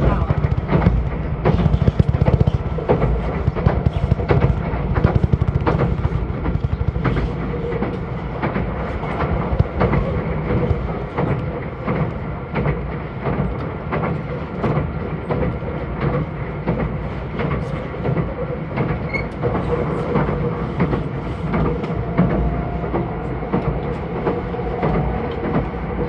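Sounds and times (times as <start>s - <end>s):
rail joint clicks: 0.0s - 26.0s
train wheels rumbling on rails: 0.0s - 26.0s.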